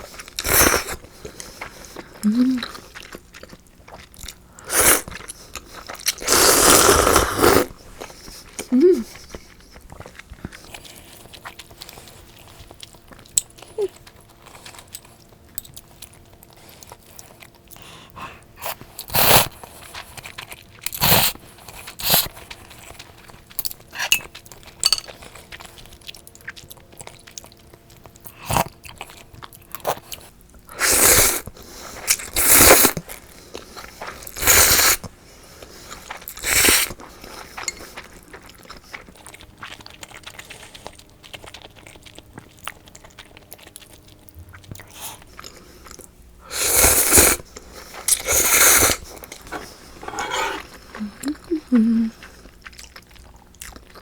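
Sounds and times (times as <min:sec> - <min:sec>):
chewing: 0:00.0 - 0:54.0.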